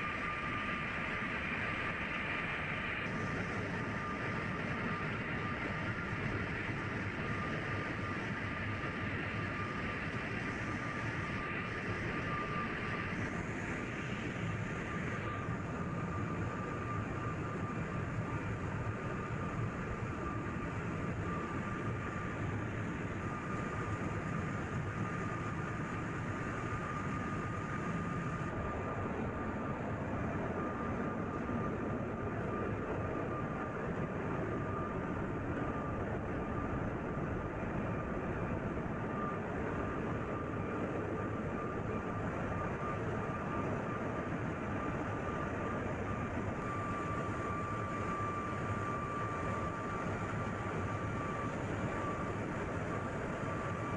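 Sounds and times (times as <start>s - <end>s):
steady high whine: 0.0s - 53.9s.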